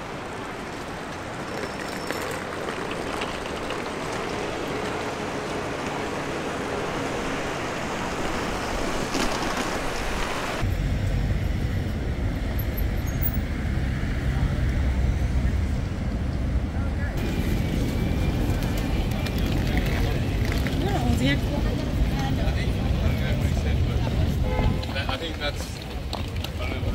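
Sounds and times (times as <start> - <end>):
city street traffic: 0.0 - 26.9.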